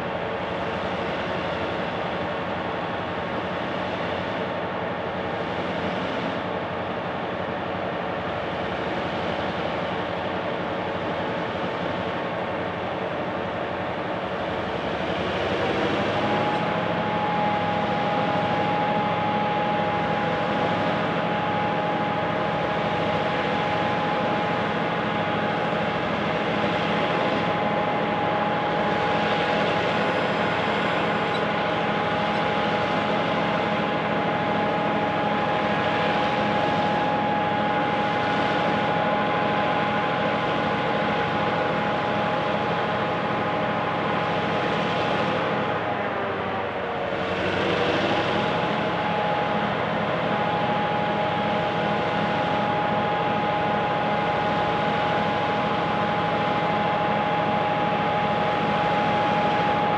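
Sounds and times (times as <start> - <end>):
diesel locomotive engines running: 0.0 - 59.9
engine whine: 0.0 - 59.9.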